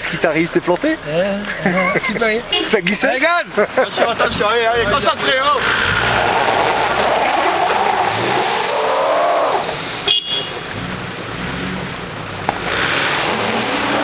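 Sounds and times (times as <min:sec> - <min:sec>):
engines revving: 0:00.0 - 0:14.0.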